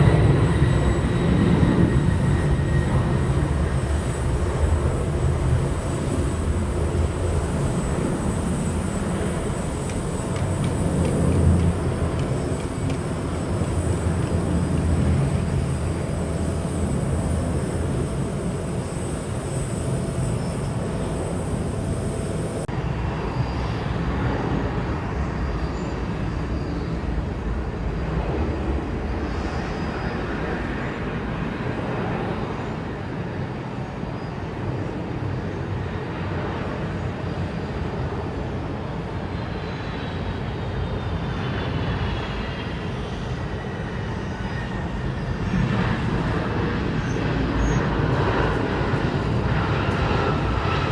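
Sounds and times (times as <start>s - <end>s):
jet engines whining: 0.0s - 33.8s, 34.6s - 50.9s.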